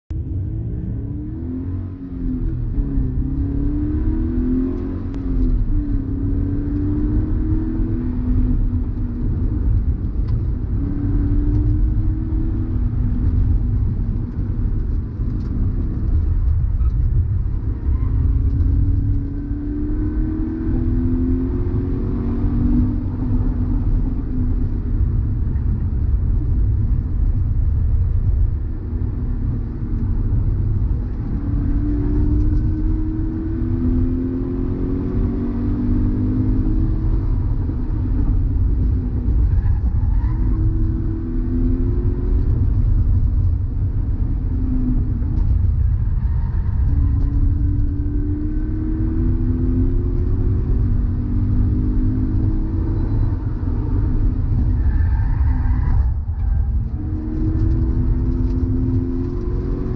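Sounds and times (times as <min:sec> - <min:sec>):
car engine accelerating: 0:00.1 - 0:59.9
road and wind noise: 0:00.1 - 0:59.9.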